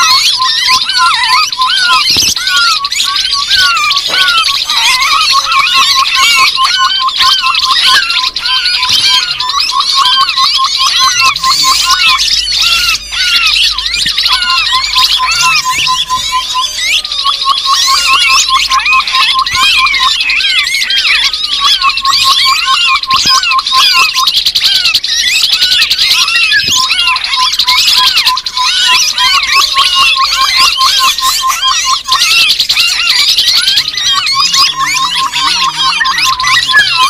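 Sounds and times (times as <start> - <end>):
chorus of high bird chirps: 0.0 - 37.0
fast low bird notes: 0.0 - 37.0.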